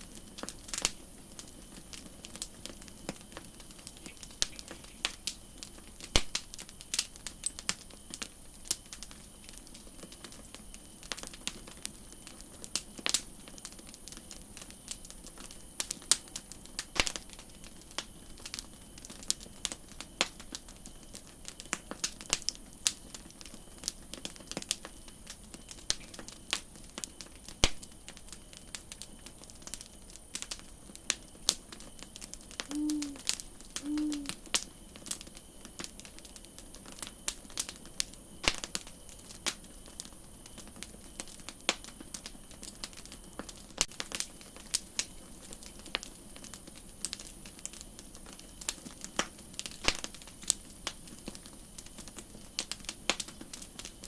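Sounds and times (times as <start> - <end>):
faint steady hiss: 0.0 - 54.0
campfire pops and snaps: 0.1 - 54.0.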